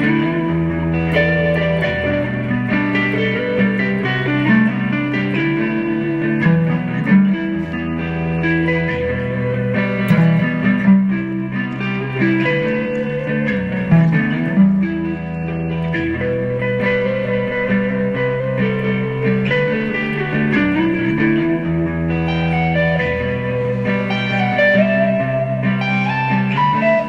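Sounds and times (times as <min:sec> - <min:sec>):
electric guitar music: 0:00.0 - 0:27.0.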